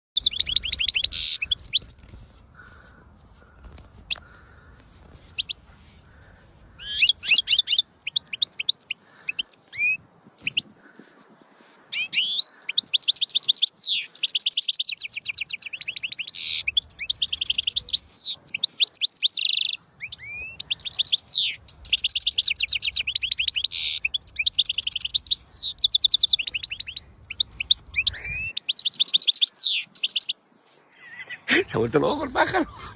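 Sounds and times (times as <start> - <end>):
goldfinch singing: 0.2 - 32.9.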